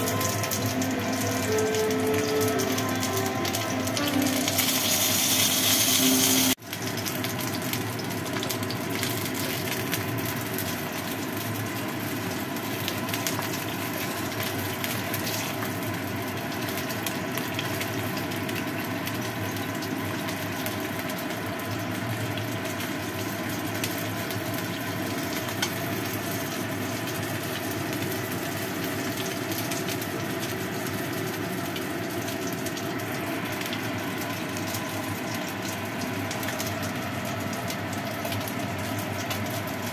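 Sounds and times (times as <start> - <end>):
fish head sizzling in oil: 0.0 - 39.9.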